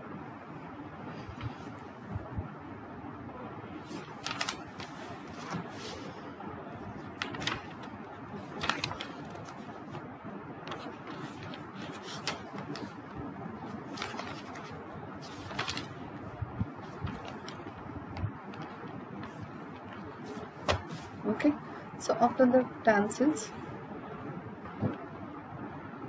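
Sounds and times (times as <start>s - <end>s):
room background noise: 0.0s - 26.0s.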